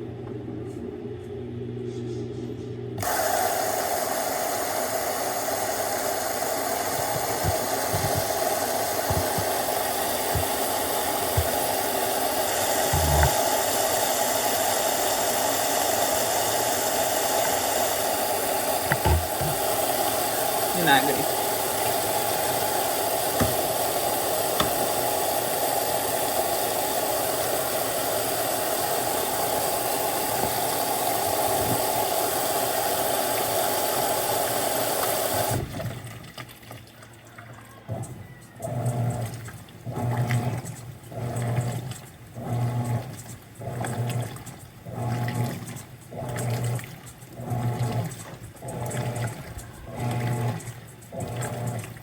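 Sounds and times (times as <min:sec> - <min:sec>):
washing machine agitator motor humming: 0:00.0 - 0:52.0
water rushing into washing machine: 0:03.0 - 0:52.0.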